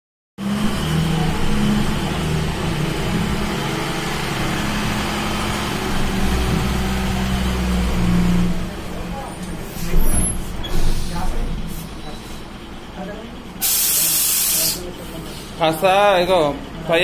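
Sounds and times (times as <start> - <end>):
heavy truck engine rumbling: 0.4 - 17.0.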